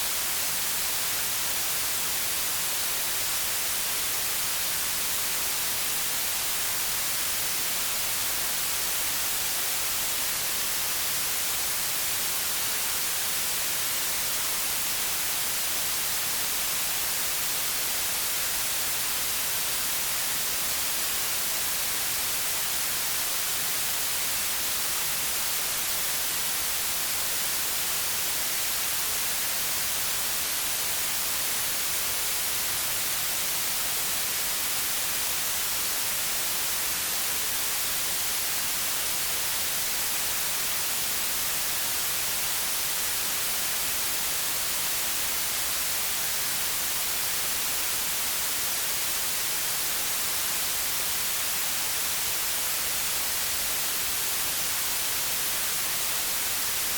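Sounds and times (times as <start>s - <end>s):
steady white noise hiss: 0.0s - 56.9s.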